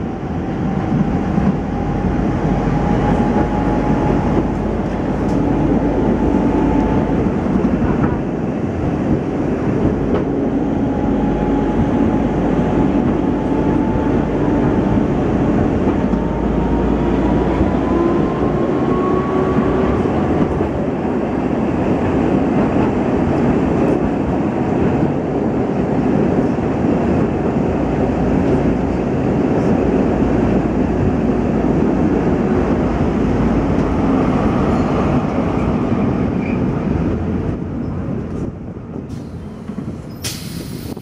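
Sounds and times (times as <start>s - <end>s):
tram wheels rumbling on rails: 0.0s - 41.0s.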